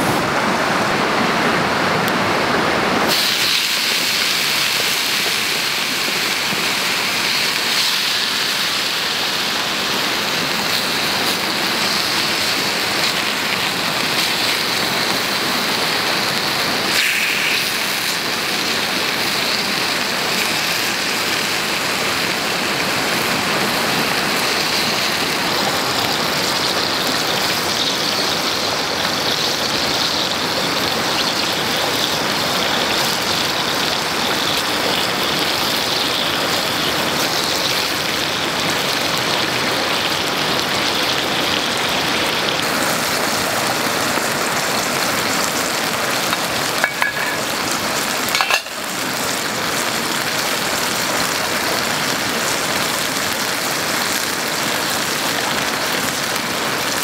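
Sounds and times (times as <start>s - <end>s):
squid sizzling in a frying pan: 3.1s - 57.0s.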